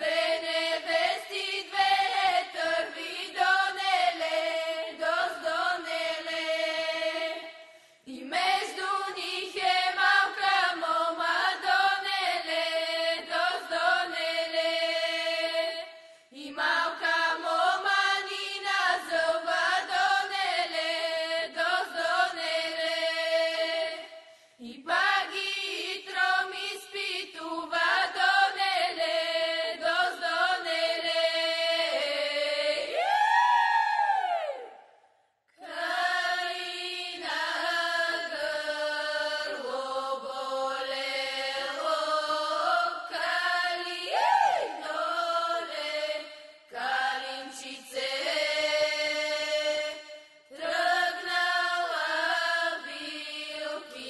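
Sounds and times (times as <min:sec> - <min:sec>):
women singing folk song: 0:00.0 - 0:34.7, 0:35.6 - 0:54.0.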